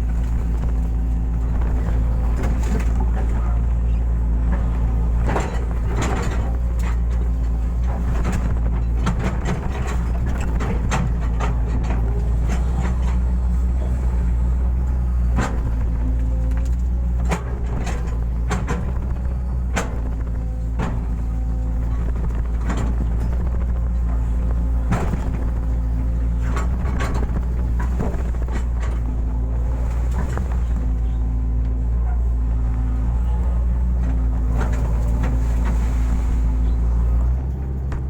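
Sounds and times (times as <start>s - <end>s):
excavator diesel engine running: 0.0s - 38.0s
machine knocks and clanks: 0.0s - 38.0s.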